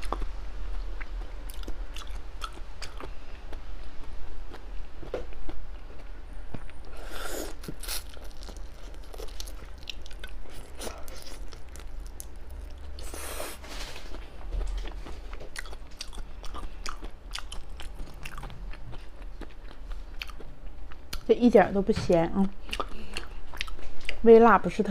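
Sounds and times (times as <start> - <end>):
chewing and crunching seafood: 0.0 - 21.3, 22.6 - 24.2.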